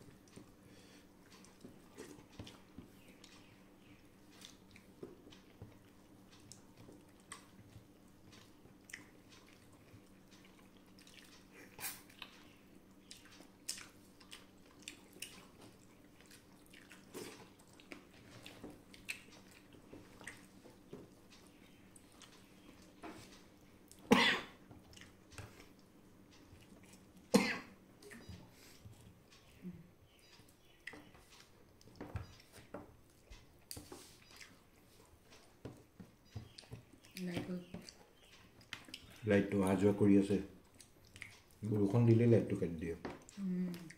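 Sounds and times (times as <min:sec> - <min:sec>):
faint steady hum: 0:00.0 - 0:43.9
soft chewing: 0:00.0 - 0:43.9.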